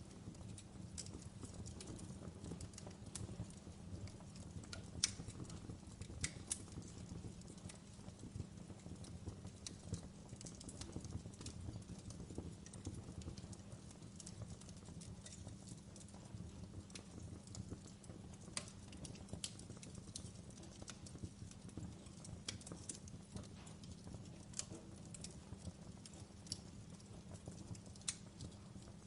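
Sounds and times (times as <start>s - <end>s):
low rumble of burning: 0.0s - 29.0s
wood fire crackling: 0.0s - 29.0s.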